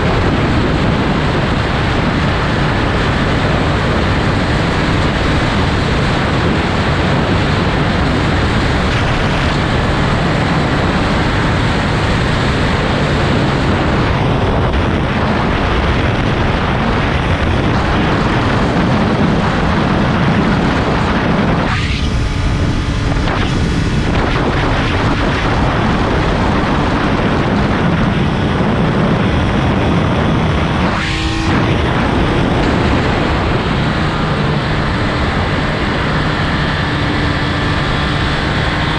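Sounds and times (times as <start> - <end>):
motorcycle engine: 0.0 - 38.9
wind buffeting microphone: 0.0 - 38.9.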